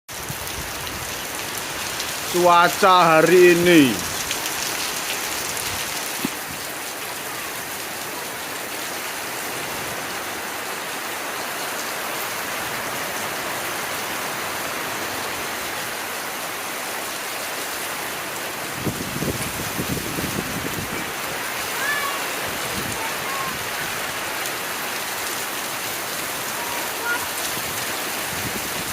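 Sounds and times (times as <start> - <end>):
heavy rain pouring: 0.1 - 28.9.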